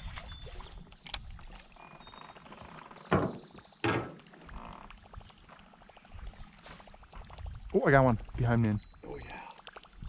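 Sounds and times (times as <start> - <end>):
faint water and boat noise: 0.0 - 10.0.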